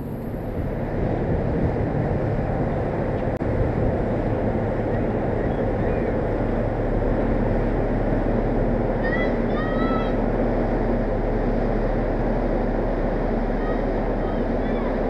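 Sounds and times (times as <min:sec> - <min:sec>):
ship engine rumble: 0:00.0 - 0:15.0.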